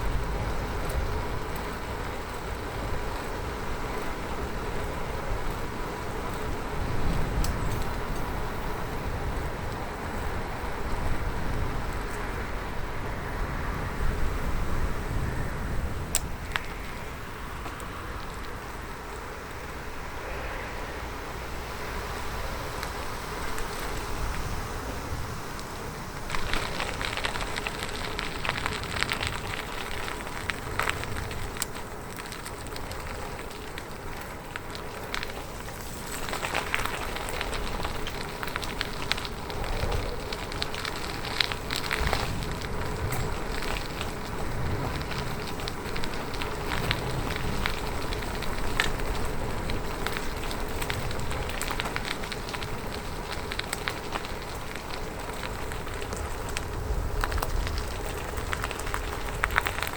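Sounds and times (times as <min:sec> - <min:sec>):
bicycle clicks and ticks: 0:00.0 - 0:59.9
bicycle tyres rolling on road: 0:00.0 - 0:59.9.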